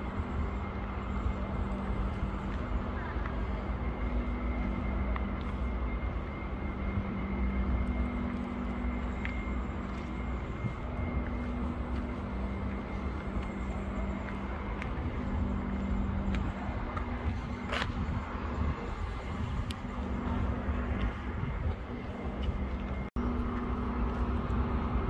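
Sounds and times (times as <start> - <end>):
mechanical drone: 0.0 - 25.0
rumbling background: 0.0 - 25.0.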